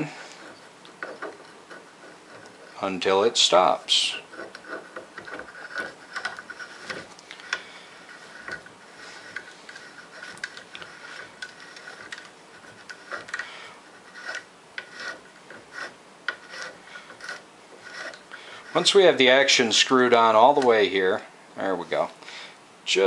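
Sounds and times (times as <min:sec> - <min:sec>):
faint scraping of threads: 0:00.0 - 0:21.2.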